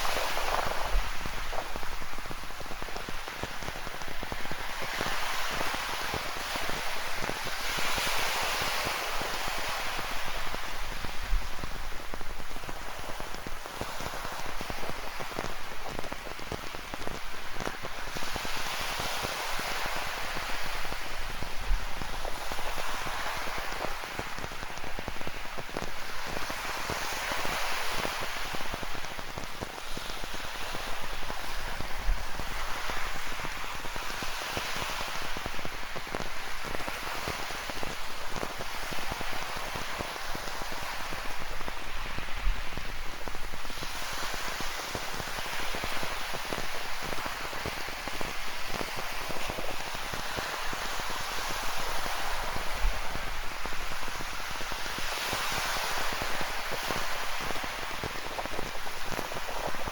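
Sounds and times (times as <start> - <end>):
surf washing on rocky shore: 0.0 - 59.9.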